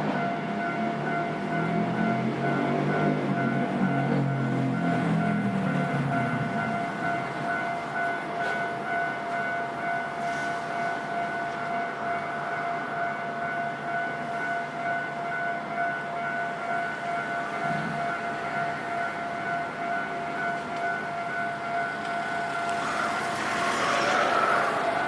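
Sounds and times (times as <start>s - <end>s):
level crossing warning bell: 0.0s - 25.0s.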